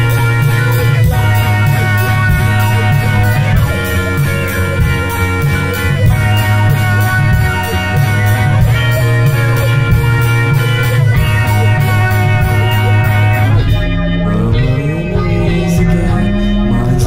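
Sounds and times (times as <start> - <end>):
deep bass line: 0.0 - 17.0
held synth chords: 0.0 - 17.0
quick ticking beat: 0.0 - 17.0.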